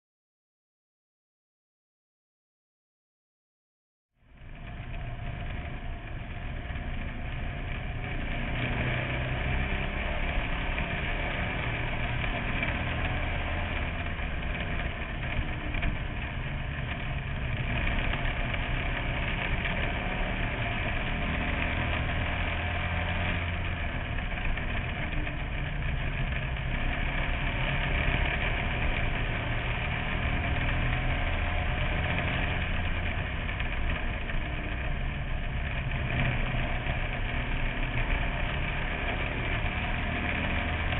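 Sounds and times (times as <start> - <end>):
small race car engine running: 4.2 - 40.9.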